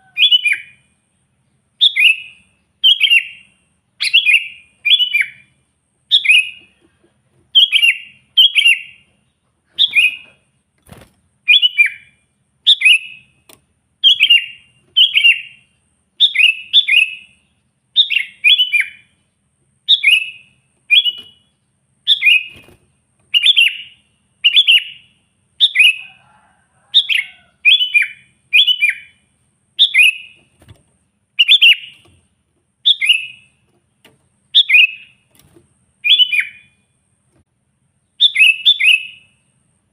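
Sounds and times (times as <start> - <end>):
bulbul singing: 0.0 - 0.9, 1.8 - 26.3, 27.0 - 30.6, 31.3 - 32.2, 32.8 - 33.8, 34.4 - 37.0, 38.0 - 39.4.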